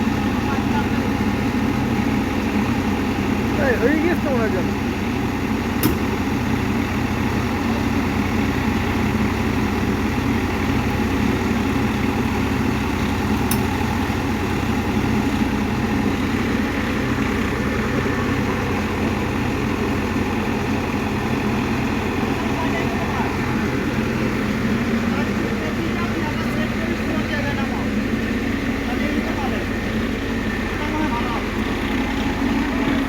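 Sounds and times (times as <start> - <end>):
heavy machine engine idling: 0.0 - 33.0.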